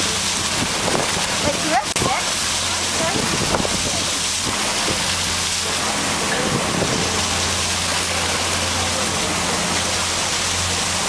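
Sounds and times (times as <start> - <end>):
boat engine drone: 0.0 - 11.0
water and wind rushing: 0.0 - 11.0.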